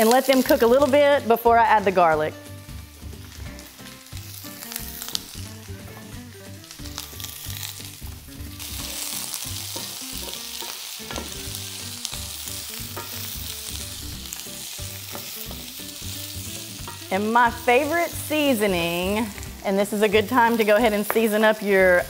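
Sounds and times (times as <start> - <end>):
onions sizzling in a skillet: 0.0 - 22.0.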